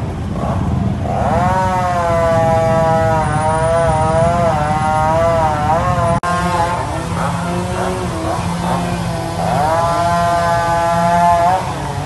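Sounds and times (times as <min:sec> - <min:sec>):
chainsaw cutting wood: 0:01.1 - 0:12.0.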